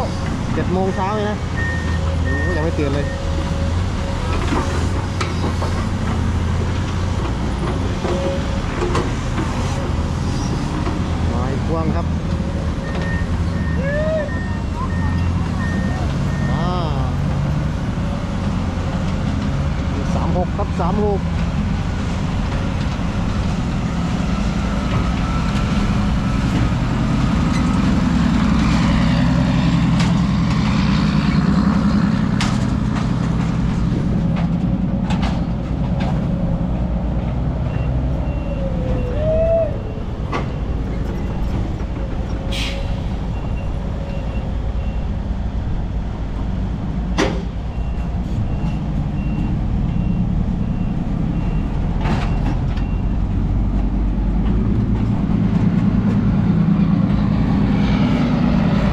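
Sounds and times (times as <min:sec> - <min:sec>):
diesel dump trucks running: 0:00.0 - 0:58.9.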